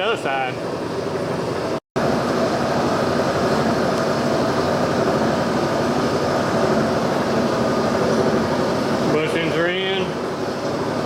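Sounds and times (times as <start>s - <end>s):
machinery whirring: 2.0s - 11.0s.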